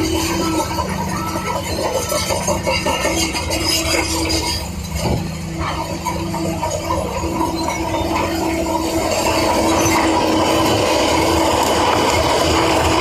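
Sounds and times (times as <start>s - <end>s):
diesel engine drone: 0.0s - 13.0s
engine whine: 0.0s - 13.0s.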